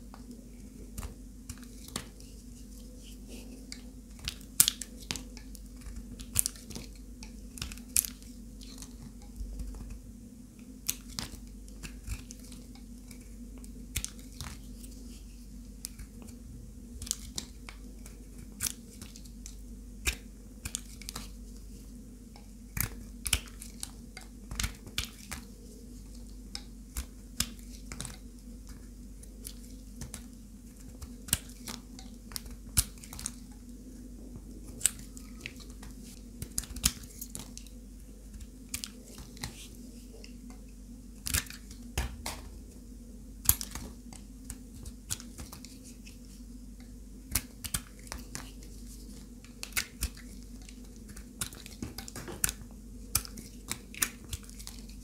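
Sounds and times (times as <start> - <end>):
faint steady hum: 0.0 - 55.0
knife cutting crumbly soap: 0.1 - 33.9, 34.6 - 42.6, 43.4 - 55.0.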